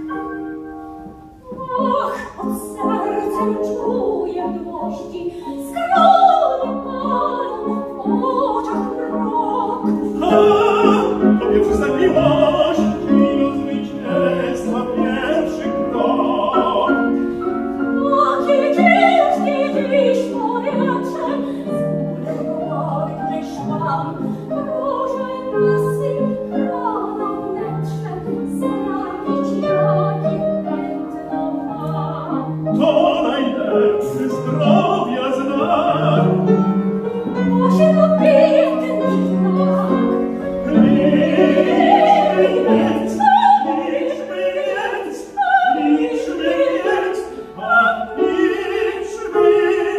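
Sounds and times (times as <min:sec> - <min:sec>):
grand piano: 0:00.0 - 0:49.9
operatic singing: 0:01.4 - 0:49.9.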